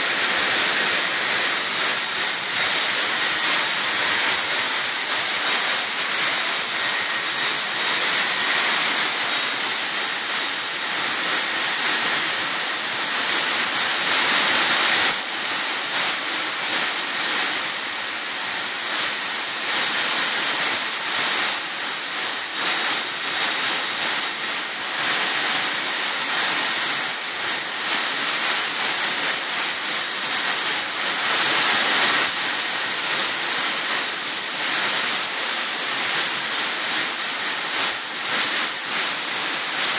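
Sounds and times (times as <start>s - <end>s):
laser cutter rushing noise: 0.0s - 39.9s
thin high whine: 0.0s - 39.9s.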